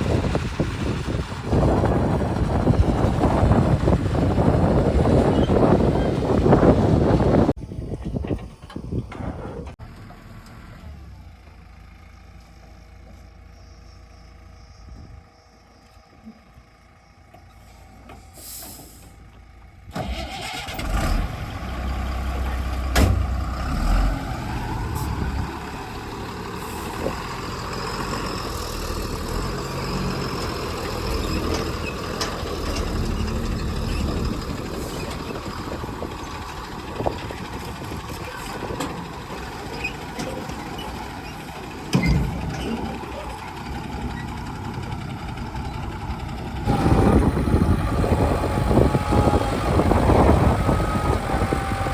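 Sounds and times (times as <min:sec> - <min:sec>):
heavy diesel engine running: 0:00.0 - 0:15.3, 0:16.7 - 0:51.9.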